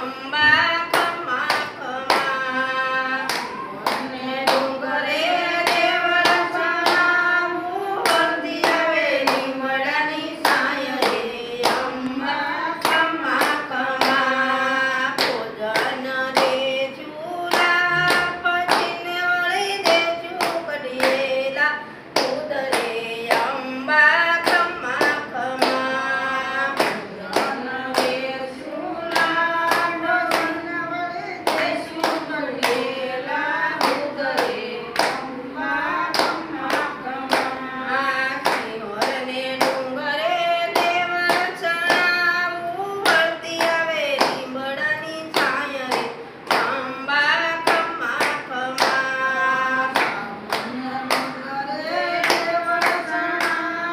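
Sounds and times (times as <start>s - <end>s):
hands clapping steady beat: 0.0s - 53.9s
women singing devotional song: 0.0s - 53.9s.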